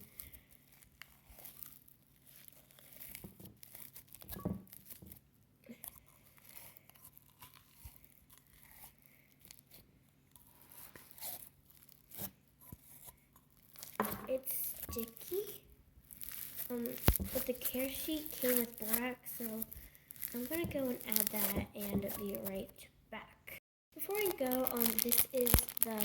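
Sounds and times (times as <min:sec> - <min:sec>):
slime crackling and popping: 0:00.0 - 0:22.7, 0:24.0 - 0:26.0.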